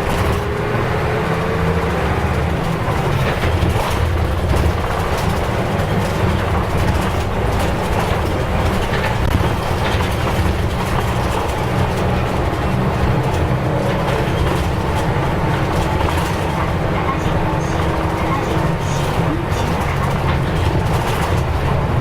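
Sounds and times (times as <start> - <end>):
bus diesel engine drone: 0.0 - 22.0
road rumble: 0.0 - 22.0.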